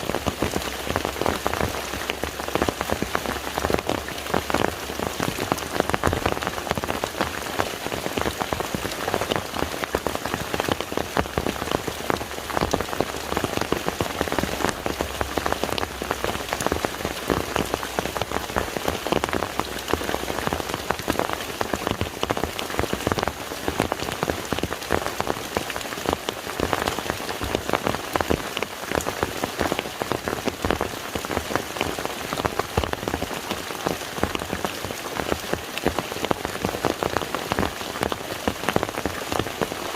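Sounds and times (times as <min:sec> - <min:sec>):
rain falling on water: 0:00.0 - 0:39.9.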